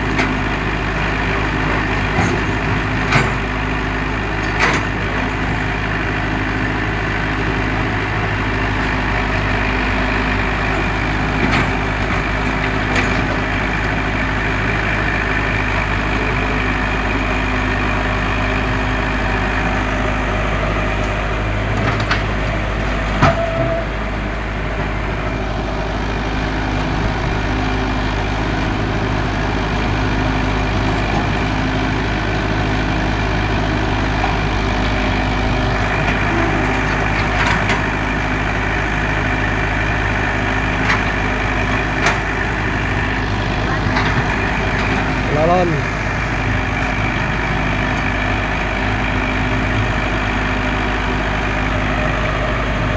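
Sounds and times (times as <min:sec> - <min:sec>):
excavator engine running: 0:00.0 - 0:52.9.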